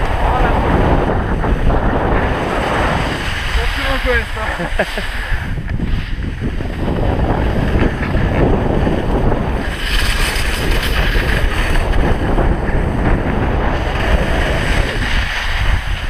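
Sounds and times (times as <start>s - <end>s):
skis sliding over snow: 0.0s - 16.0s
wind buffeting microphone: 0.0s - 16.0s.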